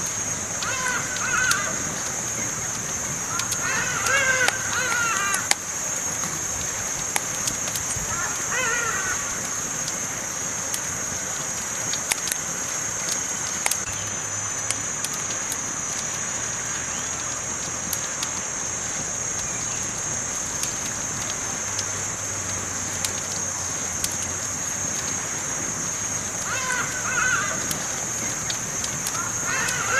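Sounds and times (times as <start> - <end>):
campfire crackling pops: 0.0 - 29.9
campfire hissing: 0.0 - 29.9.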